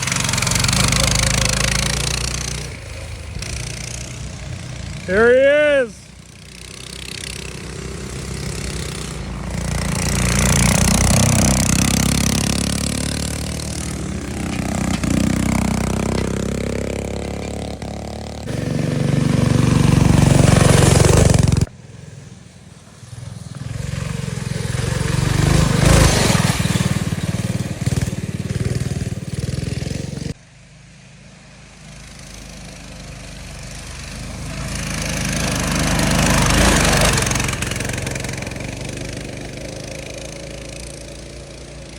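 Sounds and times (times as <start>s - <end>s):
minibike engines passing by: 0.0s - 41.9s.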